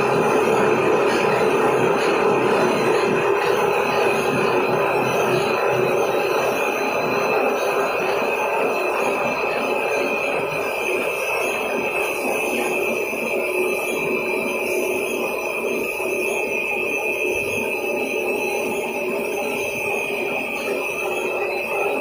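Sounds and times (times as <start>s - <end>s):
machinery with high whine: 0.0s - 22.0s.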